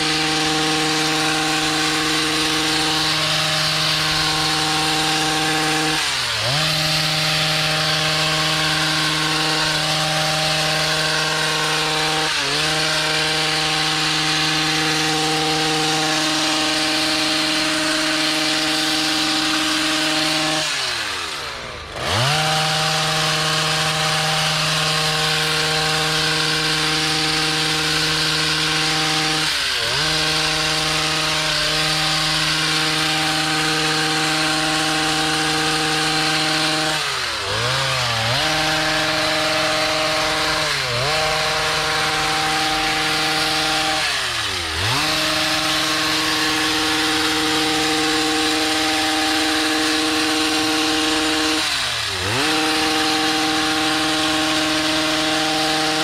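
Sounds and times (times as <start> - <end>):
hedge trimmer engine revving: 0.0 - 56.0.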